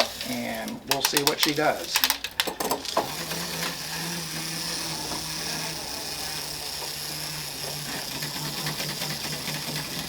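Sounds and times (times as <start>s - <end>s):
wind-up toy gears whirring: 0.0s - 10.0s.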